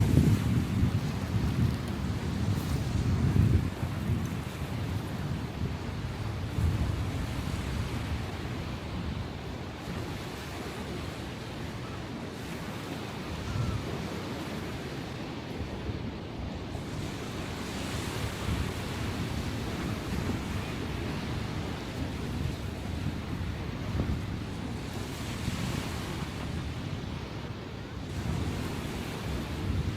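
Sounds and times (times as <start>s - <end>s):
sea waves breaking on shore: 0.0s - 29.9s
wind buffeting microphone: 0.0s - 29.9s.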